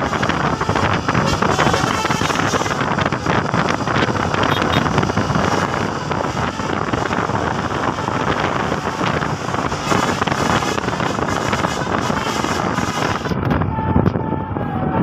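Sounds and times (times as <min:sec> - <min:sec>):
traffic road and engine noise: 0:00.0 - 0:15.0
wind rushing over microphone: 0:00.0 - 0:15.0.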